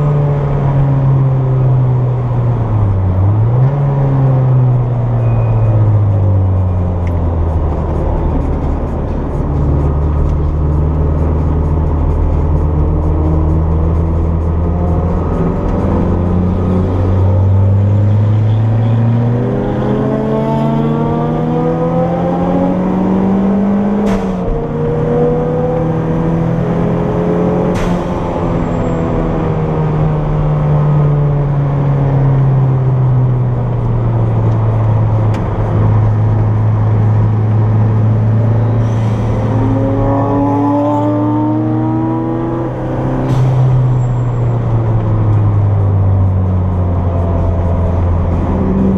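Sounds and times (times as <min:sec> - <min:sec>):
turbocharged car engine accelerating: 0:00.0 - 0:48.9.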